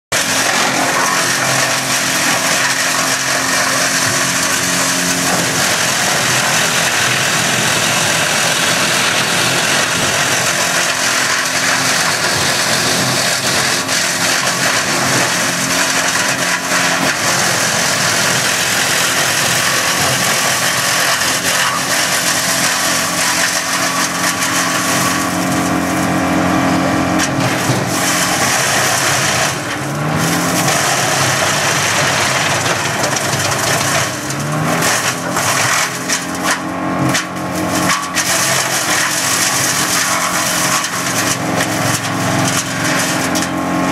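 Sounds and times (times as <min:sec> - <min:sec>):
tractor engine running: 0:00.1 - 0:43.9
woodchipper chipping branches: 0:00.1 - 0:43.9.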